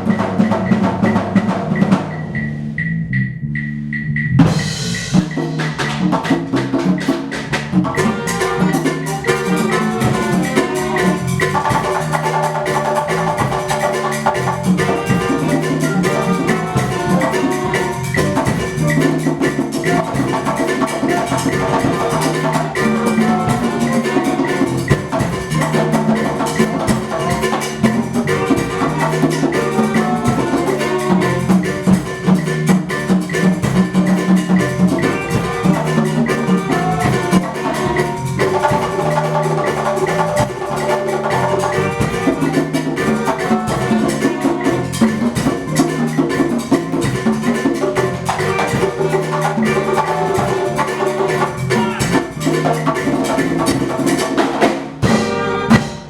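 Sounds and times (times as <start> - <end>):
percussion ensemble playing: 0.0 - 56.0.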